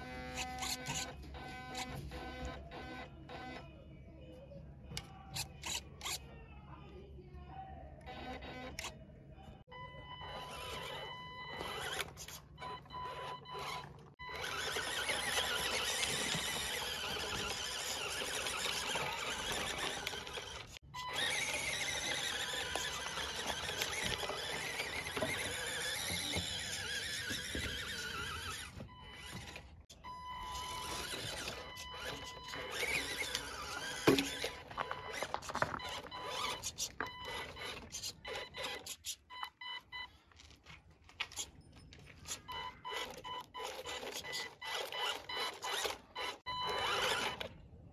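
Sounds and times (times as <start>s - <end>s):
small electric motors whining: 0.0s - 3.7s, 8.0s - 9.0s, 9.8s - 40.0s, 41.1s - 47.6s.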